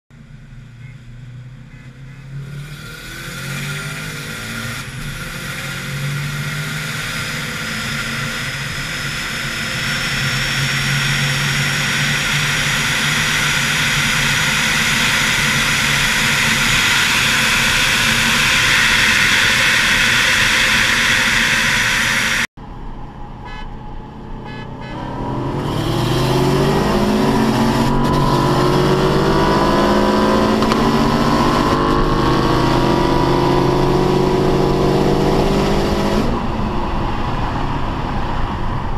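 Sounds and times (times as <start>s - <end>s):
wind and tyre noise: 0.1s - 38.9s
cars racing at full throttle: 0.2s - 38.9s.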